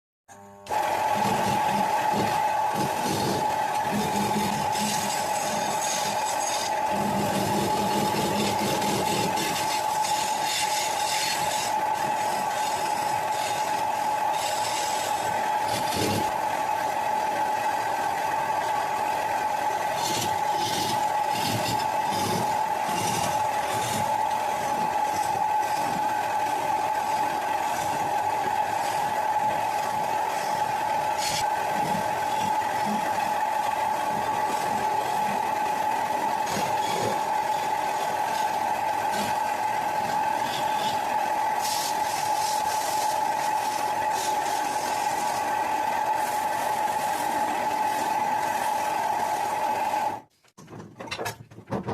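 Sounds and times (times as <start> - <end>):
power tool motor whining: 0.3 - 16.8, 19.6 - 50.2
tool scraping wood: 0.7 - 16.4, 19.6 - 49.7.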